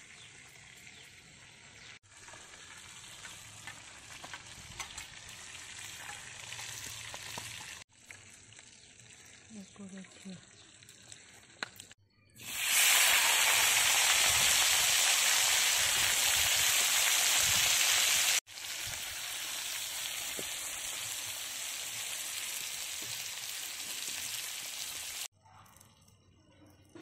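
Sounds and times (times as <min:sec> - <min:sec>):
potato chunks sizzling in oil: 0:00.0 - 0:09.5, 0:12.4 - 0:25.3.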